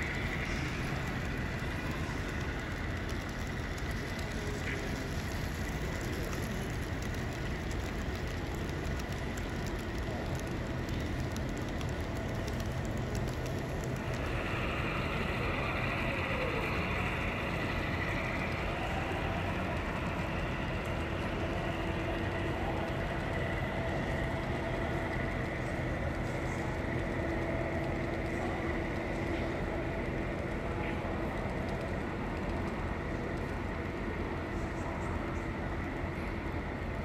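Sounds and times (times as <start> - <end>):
faint steady hum: 0.0 - 37.0
model train rolling rumble: 0.0 - 37.0.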